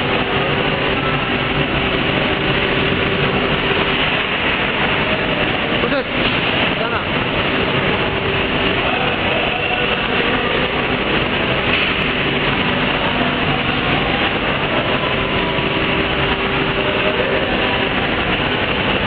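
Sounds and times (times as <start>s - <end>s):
production line machinery running: 0.0s - 19.0s.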